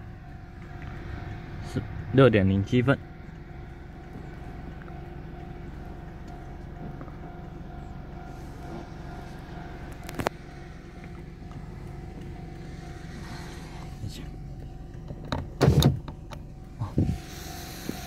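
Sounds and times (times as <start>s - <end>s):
car idling hum: 0.0s - 18.0s.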